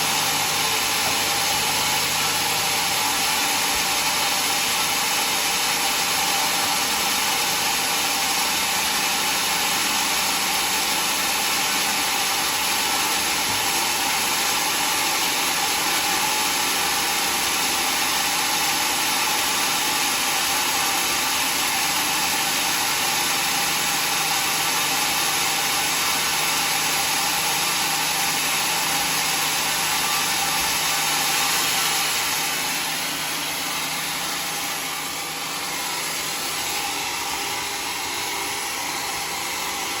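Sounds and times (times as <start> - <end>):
power saw running: 0.0 - 40.0.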